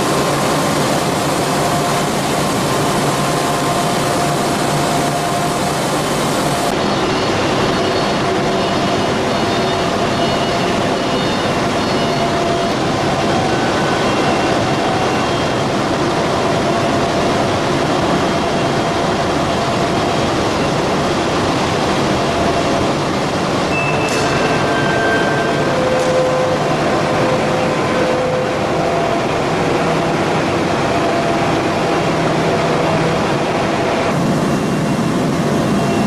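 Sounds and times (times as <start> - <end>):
furnace machinery roar: 0.0 - 36.0.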